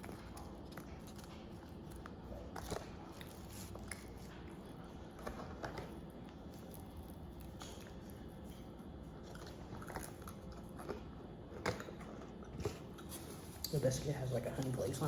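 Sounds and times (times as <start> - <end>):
person chewing food: 0.0 - 13.7.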